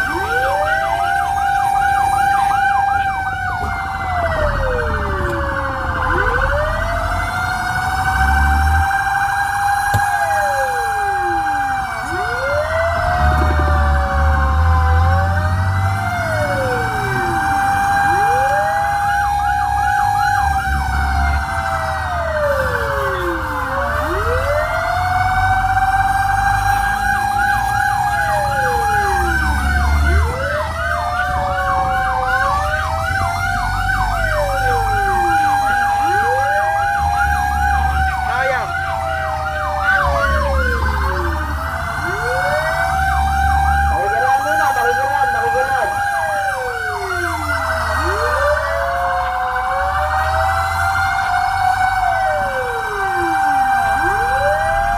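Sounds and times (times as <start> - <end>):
fire truck sirens wailing: 0.0 - 54.9
truck engine rumble: 0.0 - 54.9.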